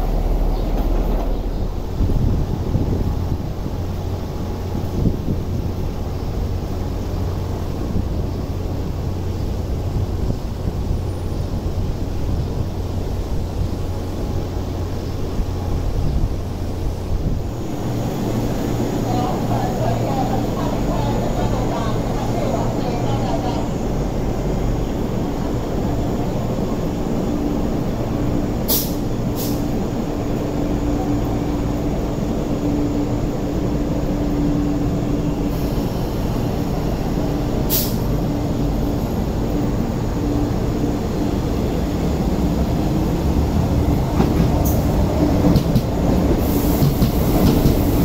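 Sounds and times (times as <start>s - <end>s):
electric train pulling in: 0.0s - 48.0s
train rumbling: 0.0s - 48.0s.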